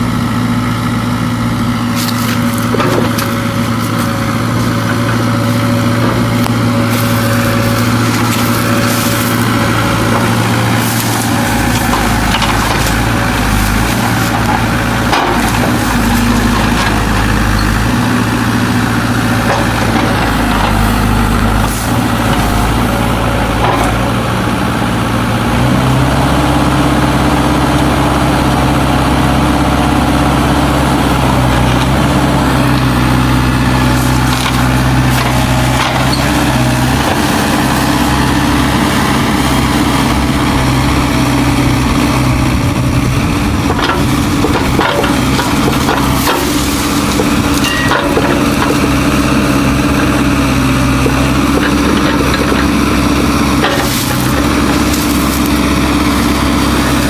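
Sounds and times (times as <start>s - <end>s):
excavator diesel engine under load: 0.0s - 57.0s
roots and wood cracking: 1.9s - 24.1s, 31.4s - 57.0s.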